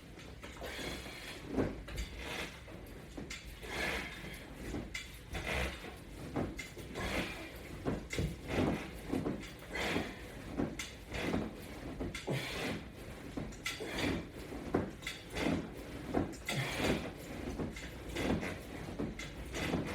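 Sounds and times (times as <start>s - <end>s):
rhythmic swishing of clothing: 0.0s - 19.9s.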